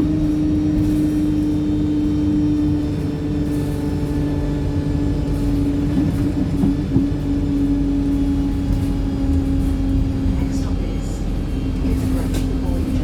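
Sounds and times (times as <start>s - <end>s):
bus engine whine and rumble: 0.0s - 13.0s.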